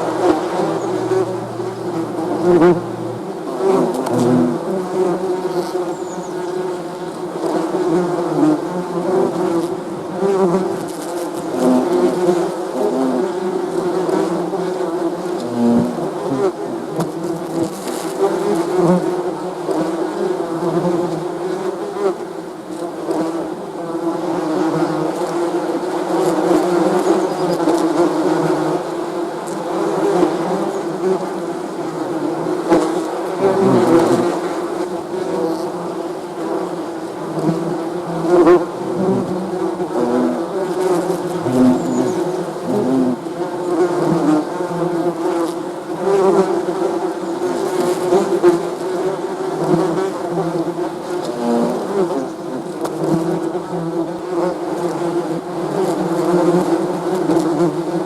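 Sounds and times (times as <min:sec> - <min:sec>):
bees buzzing: 0:00.0 - 0:22.2, 0:24.0 - 0:58.0.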